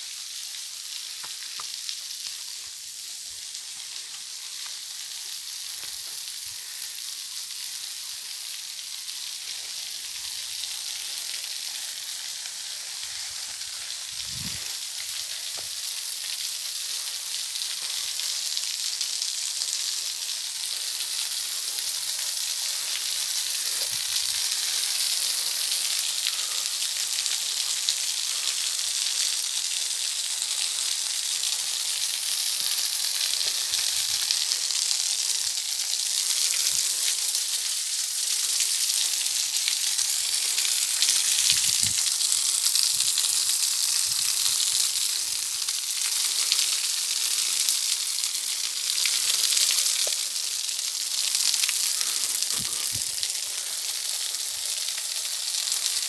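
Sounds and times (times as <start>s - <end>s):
small waterfall pattering on rock: 0.0s - 56.0s.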